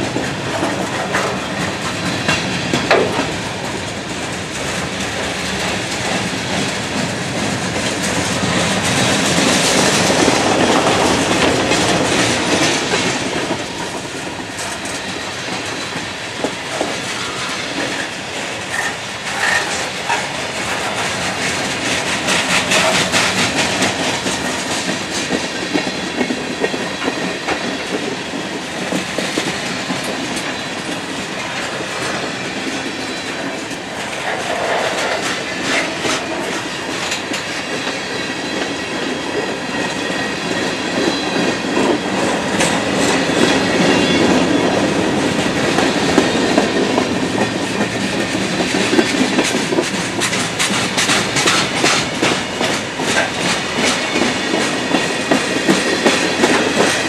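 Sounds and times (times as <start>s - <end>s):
freight train wheels rumbling: 0.0s - 57.0s
wheels clacking over rail joints: 0.0s - 57.0s.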